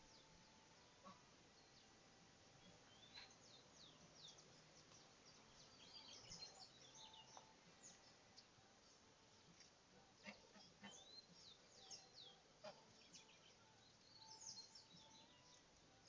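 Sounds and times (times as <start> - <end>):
faint birdsong chirps and whistles: 0.0 - 16.0
low background hiss: 0.0 - 16.0.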